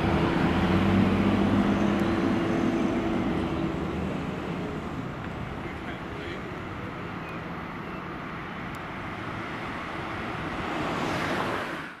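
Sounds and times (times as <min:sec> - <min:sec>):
road traffic engine and tyre noise: 0:00.0 - 0:12.0.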